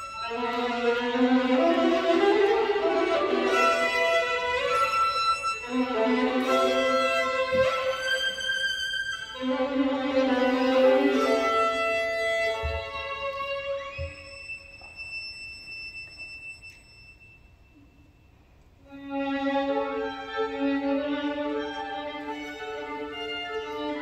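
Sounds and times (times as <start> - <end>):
solo violin: 0.0 - 16.8, 18.8 - 24.0.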